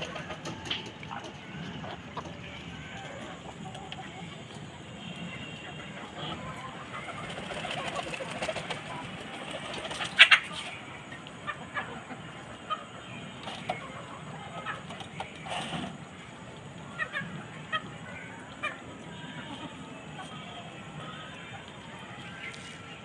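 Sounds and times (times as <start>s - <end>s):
hens clucking softly: 0.0s - 23.0s.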